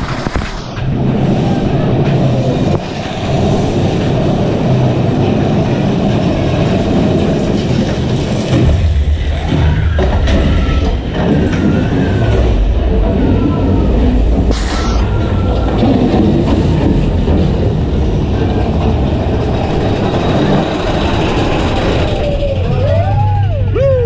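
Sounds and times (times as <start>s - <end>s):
roller coaster wheels rumbling: 0.0s - 24.0s.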